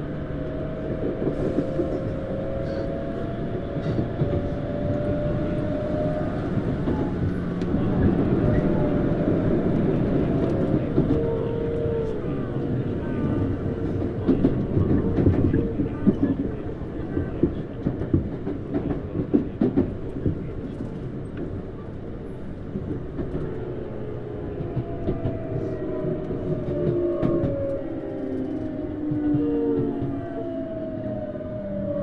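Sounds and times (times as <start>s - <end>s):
train wheels rumbling and clicking: 0.0s - 31.8s
train inverter whine: 0.0s - 32.0s.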